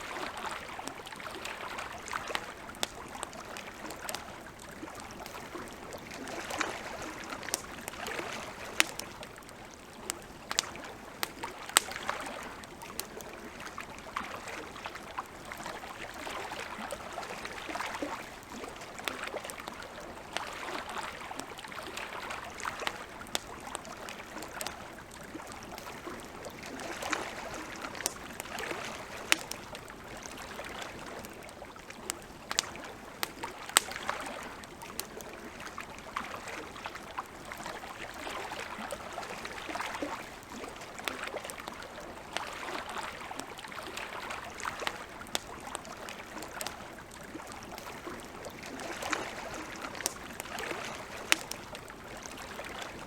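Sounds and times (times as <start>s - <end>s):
water lapping at shore: 0.0s - 53.0s
campfire crackling and popping: 0.1s - 53.0s.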